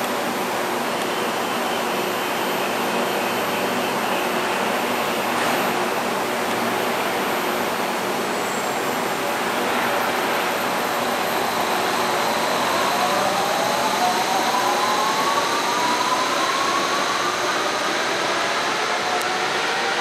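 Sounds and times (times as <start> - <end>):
monorail electric drive whine: 0.0 - 20.0.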